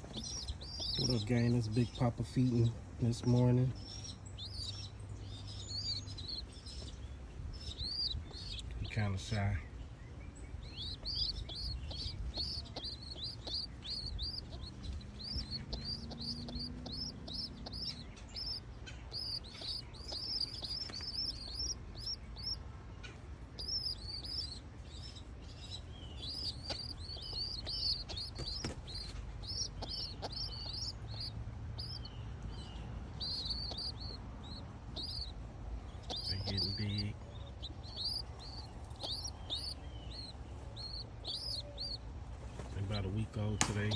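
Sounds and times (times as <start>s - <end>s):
pigeon squabs squeaking: 0.0s - 43.9s.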